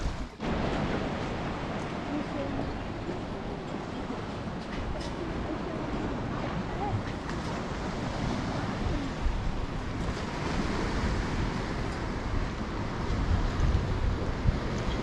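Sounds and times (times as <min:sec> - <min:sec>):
choppy lake water: 0:00.0 - 0:15.0
gusty wind on microphone: 0:00.0 - 0:15.0.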